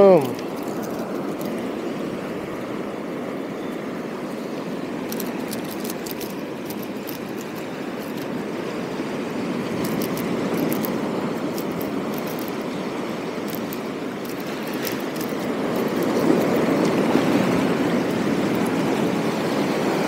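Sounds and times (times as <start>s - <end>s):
surf washing over rocks: 0.0s - 20.0s.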